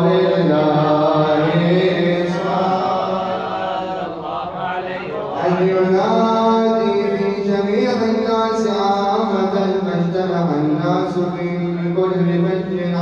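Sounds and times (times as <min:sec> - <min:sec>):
men chanting unaccompanied: 0:00.0 - 0:13.0.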